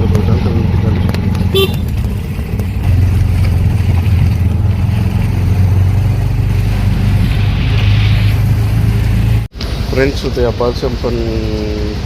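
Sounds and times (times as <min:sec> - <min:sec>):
auto-rickshaw engine and road noise: 0:00.0 - 0:12.0.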